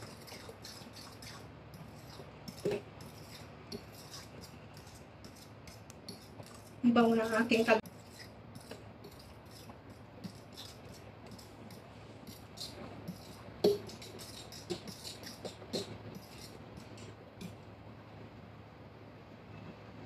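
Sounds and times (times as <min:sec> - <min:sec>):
spoon scraping glass bowl: 0:00.0 - 0:17.1.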